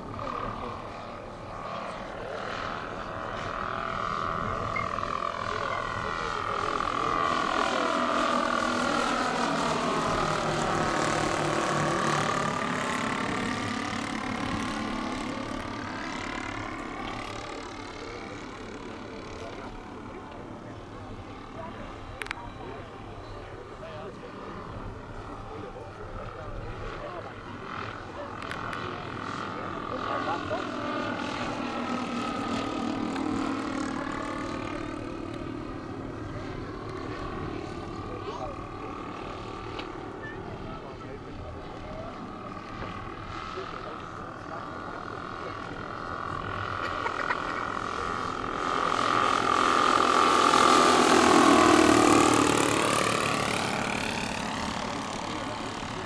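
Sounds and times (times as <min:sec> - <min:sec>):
model plane propellers droning: 0:00.0 - 0:56.0.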